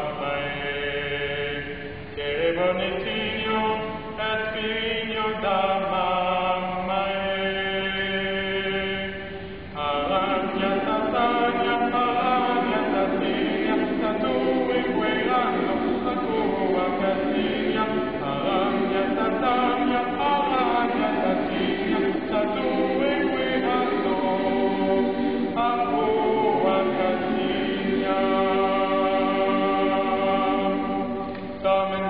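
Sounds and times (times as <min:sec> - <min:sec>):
boys' choir singing a cappella: 0:00.0 - 0:32.0.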